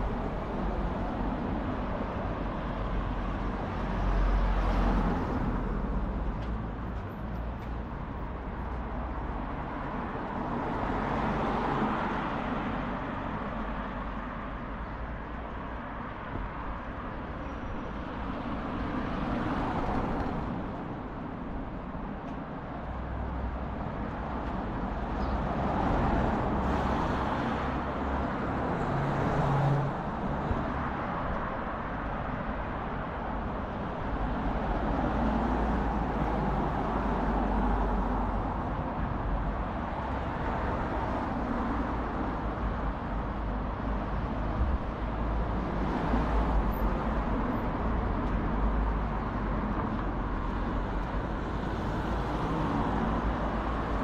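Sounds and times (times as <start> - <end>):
cars passing on street: 0.0 - 54.0.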